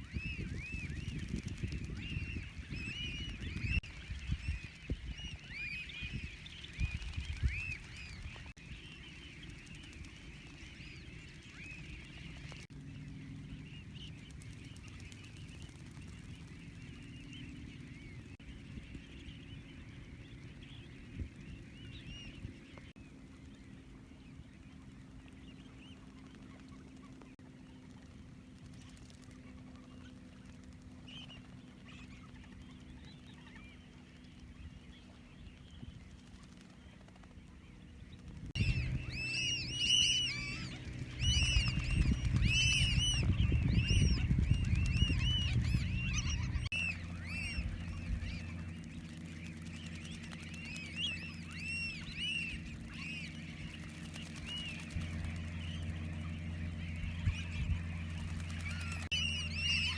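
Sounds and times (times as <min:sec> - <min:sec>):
flock of birds chirping: 0:00.0 - 0:59.9
steady low hum: 0:00.0 - 0:59.9.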